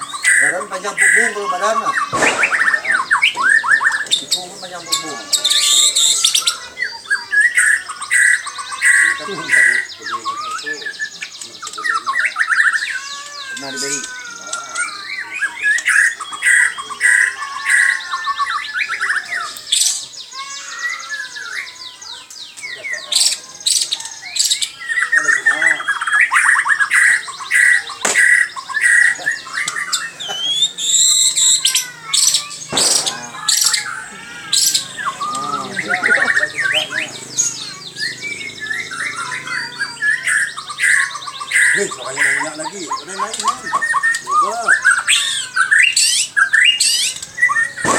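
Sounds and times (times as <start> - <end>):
other birds chattering: 0.0 - 47.9
songbird whistling and trilling: 0.0 - 47.9.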